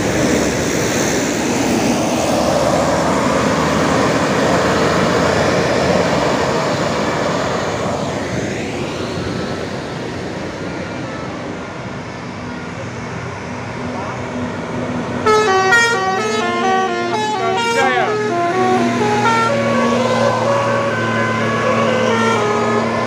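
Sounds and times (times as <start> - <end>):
bus diesel engine passing: 0.0 - 23.0.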